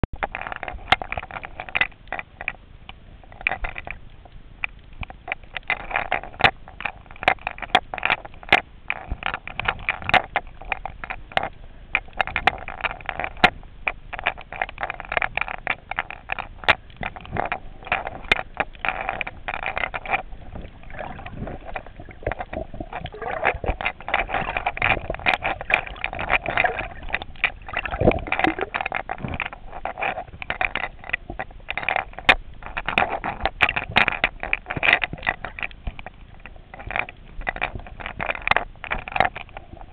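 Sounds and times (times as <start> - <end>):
water sloshing and gurgling: 0.0 - 39.9
crackle of sharp clicks: 0.2 - 39.9.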